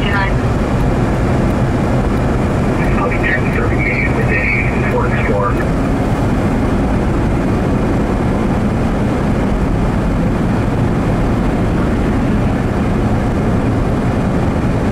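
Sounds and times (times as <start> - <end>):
vehicle driving on snowy road: 0.0 - 14.9.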